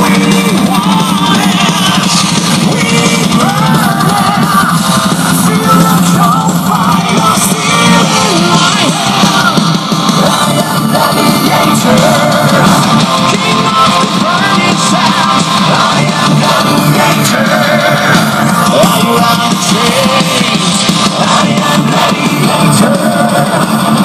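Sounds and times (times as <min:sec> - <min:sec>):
rock music through speakers: 0:00.0 - 0:24.0.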